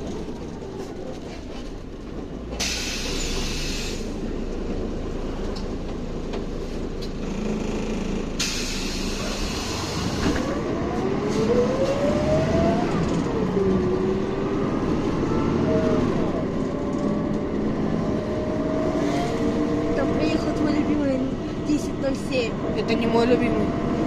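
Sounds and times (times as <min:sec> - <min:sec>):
bus engine and road rumble: 0:00.0 - 0:24.0
bus whine: 0:00.0 - 0:24.0.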